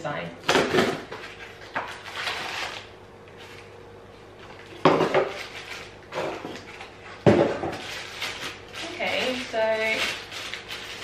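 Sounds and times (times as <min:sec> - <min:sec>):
cardboard and plastic rustling: 0:00.7 - 0:03.7, 0:04.4 - 0:11.0.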